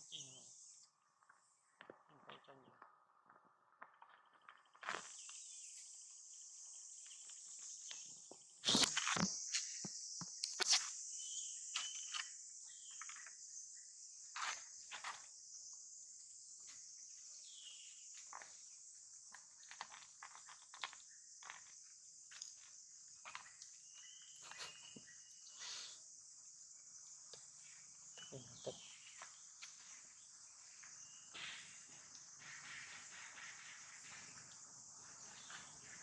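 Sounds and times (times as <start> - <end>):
insects buzzing: 0.0 - 2.8, 4.0 - 36.0.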